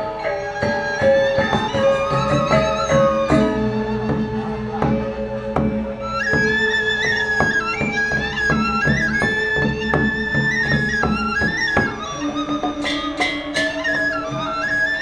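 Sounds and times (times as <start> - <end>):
drum strokes: 0.0 - 15.0
ringing metallophone tones: 0.0 - 15.0
sliding high melody: 0.0 - 15.0.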